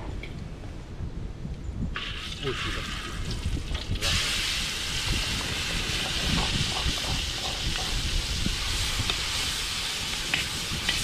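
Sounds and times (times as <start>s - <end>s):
paste sizzling in hot oil: 2.0s - 11.0s.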